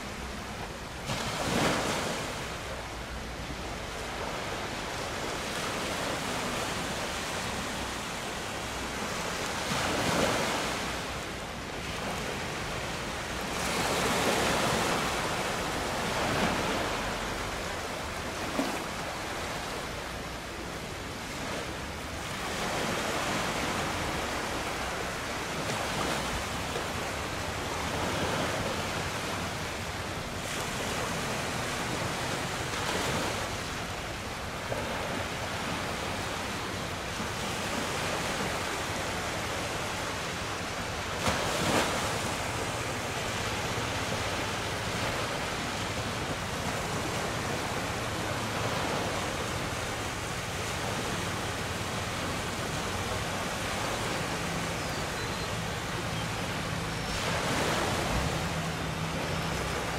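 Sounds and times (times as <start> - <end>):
sea water rushing: 0.0 - 59.9.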